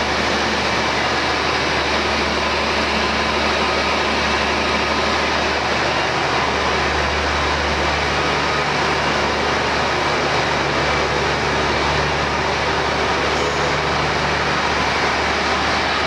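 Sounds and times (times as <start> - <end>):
diesel railcar engine running: 0.0 - 16.0.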